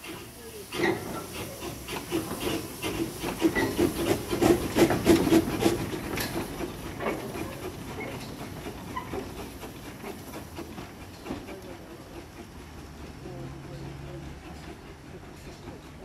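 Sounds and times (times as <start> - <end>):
steady steam hiss: 0.0 - 16.0
steam locomotive exhaust beats: 0.0 - 16.0.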